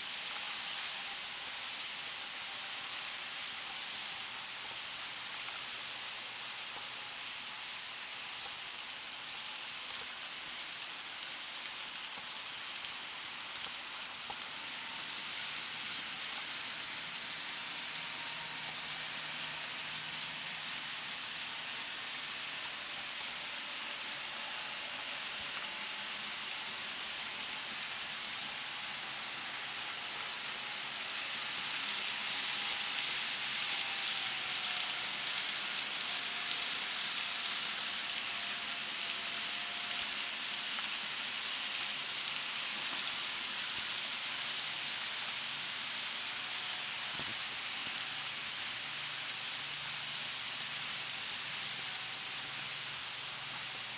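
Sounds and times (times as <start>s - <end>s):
model train motor whirring: 0.0s - 53.9s.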